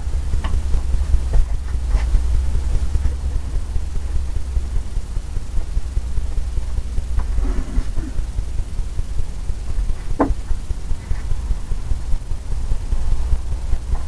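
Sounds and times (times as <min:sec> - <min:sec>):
low room noise rumble: 0:00.0 - 0:14.0.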